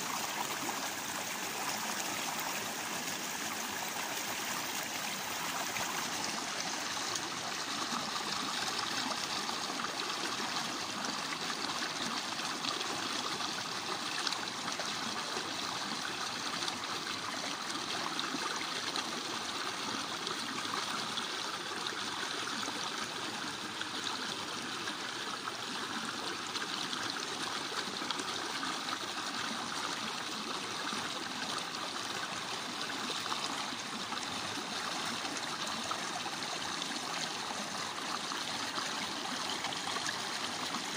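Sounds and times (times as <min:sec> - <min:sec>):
water running over rocks: 0:00.0 - 0:20.8, 0:26.3 - 0:40.9.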